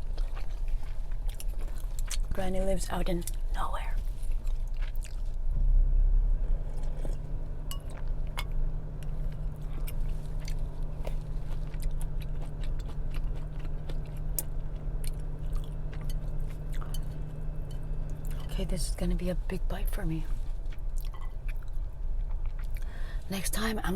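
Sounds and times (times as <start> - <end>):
close chewing with crunches: 0.0 - 5.6, 6.6 - 23.4
steady low hum: 0.0 - 23.9.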